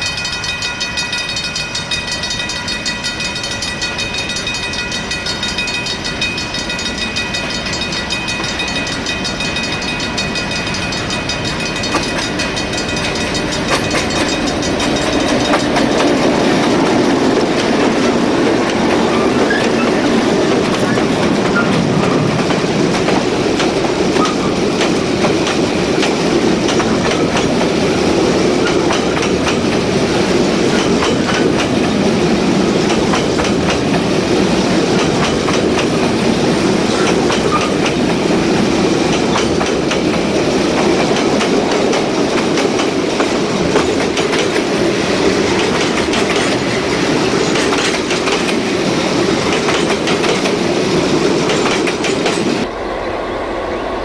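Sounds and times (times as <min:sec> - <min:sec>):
train wheels clickety-clack: 0:00.0 - 0:52.7.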